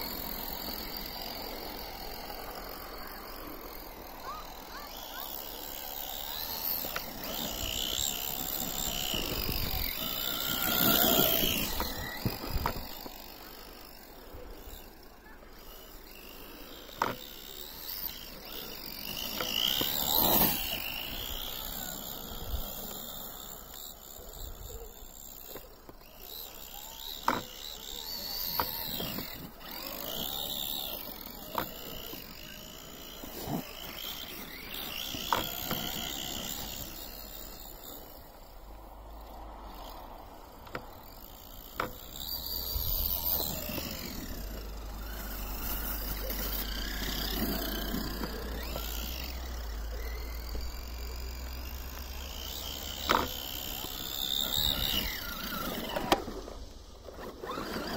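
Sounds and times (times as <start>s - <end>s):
electric motor whining: 0.0s - 57.9s.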